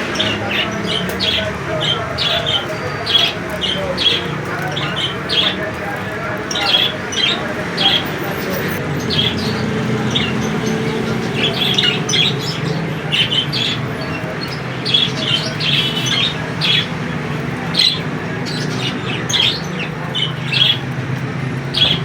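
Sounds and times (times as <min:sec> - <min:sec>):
budgerigars chirping and squawking: 0:00.0 - 0:22.0.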